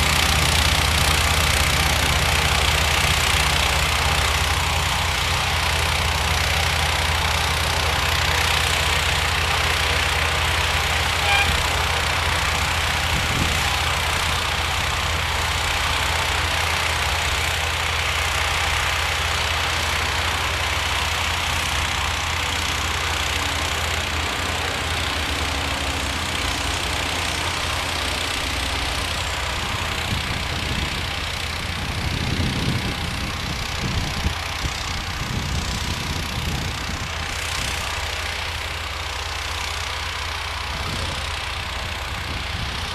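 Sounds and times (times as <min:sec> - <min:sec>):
snowblower engine running: 0:00.0 - 0:42.9.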